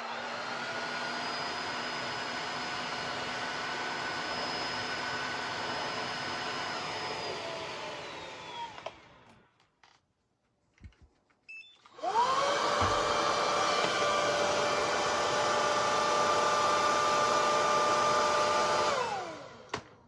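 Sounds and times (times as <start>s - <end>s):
floor cleaner motor whining: 0.0s - 9.5s, 11.9s - 19.9s.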